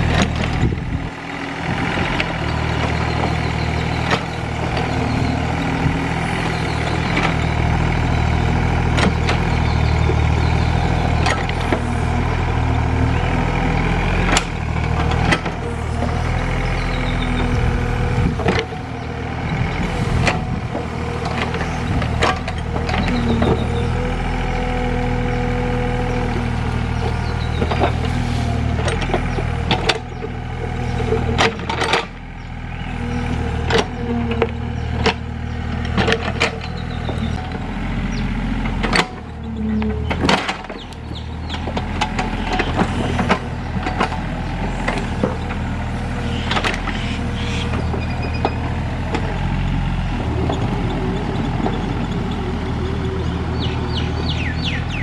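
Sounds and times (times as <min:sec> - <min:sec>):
excavator diesel engine under load: 0:00.0 - 0:55.0.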